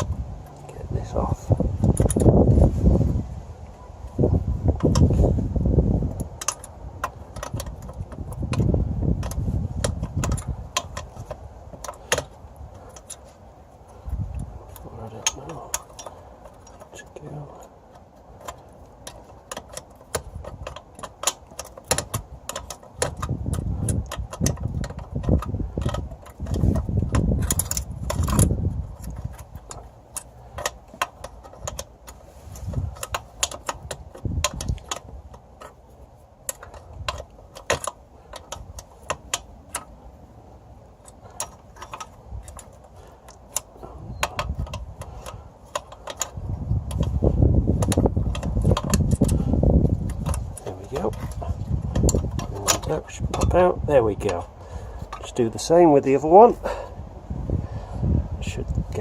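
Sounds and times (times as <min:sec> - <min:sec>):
handling bumps: 0:00.0 - 0:03.2, 0:04.0 - 0:59.0
metal tools clinking: 0:06.2 - 0:56.9.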